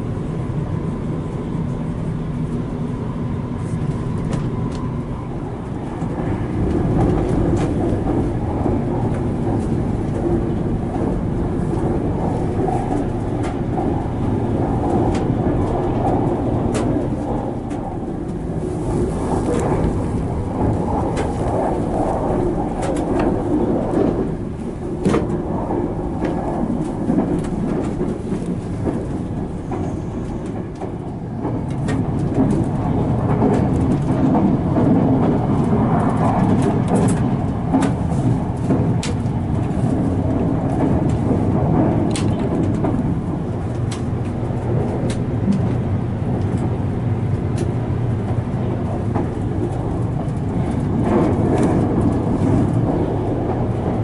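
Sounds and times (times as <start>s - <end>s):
train running low rumble: 0.0s - 54.0s.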